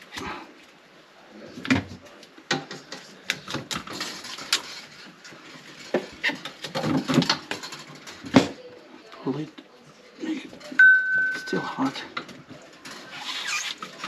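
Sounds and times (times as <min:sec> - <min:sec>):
rustling: 0:00.0 - 0:08.4, 0:10.5 - 0:14.0.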